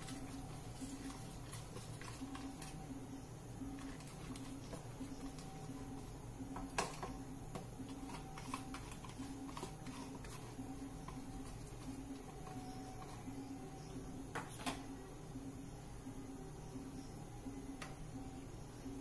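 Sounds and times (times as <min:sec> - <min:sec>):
faint pulsing hum: 0:00.0 - 0:19.0.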